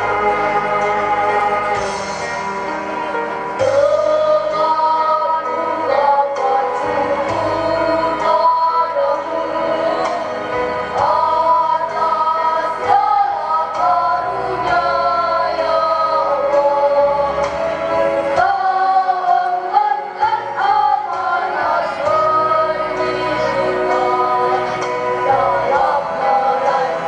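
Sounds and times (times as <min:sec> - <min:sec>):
children's choir singing a hymn: 0:00.0 - 0:27.0
instrumental backing with bass: 0:00.0 - 0:27.0.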